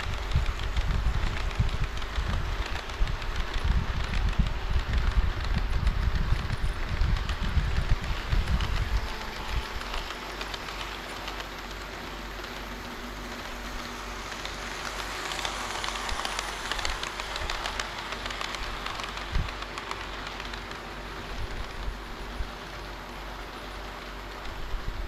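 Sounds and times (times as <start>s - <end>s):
model train wheels rumbling: 0.0s - 25.0s
rail-joint clicks: 0.0s - 25.0s.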